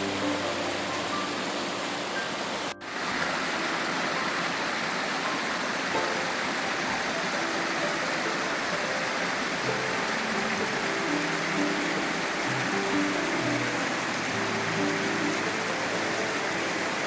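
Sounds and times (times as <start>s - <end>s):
rushing mountain stream: 0.0s - 17.0s
soft low background music: 0.0s - 17.0s.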